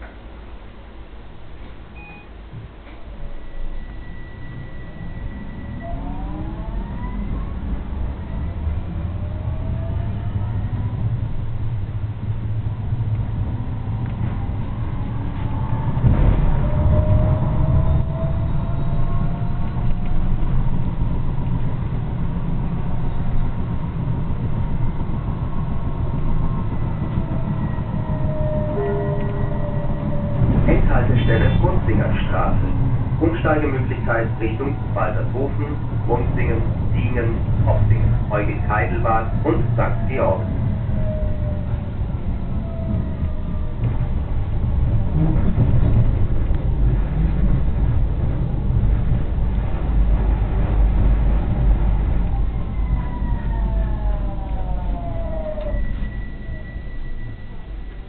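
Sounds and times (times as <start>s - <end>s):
faint whine: 0.0s - 58.0s
tram wheels rumbling: 0.0s - 58.0s.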